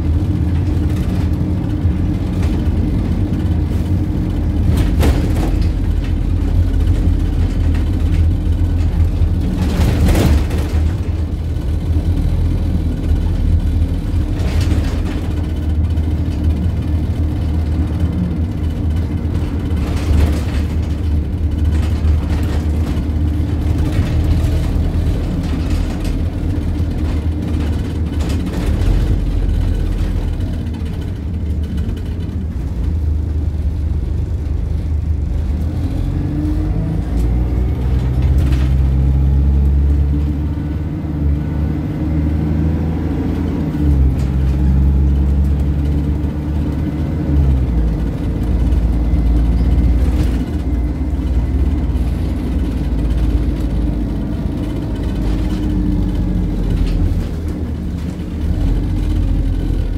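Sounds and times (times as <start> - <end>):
bus engine pulling hard: 0.0 - 59.9.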